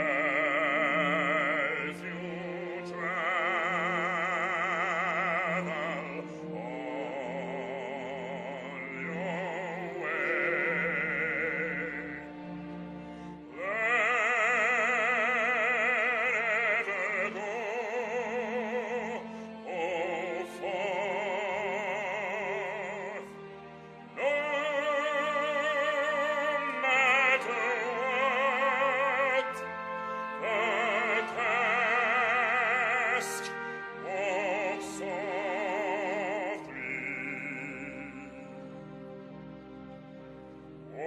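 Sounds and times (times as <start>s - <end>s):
operatic singing with vibrato: 0.0s - 41.0s.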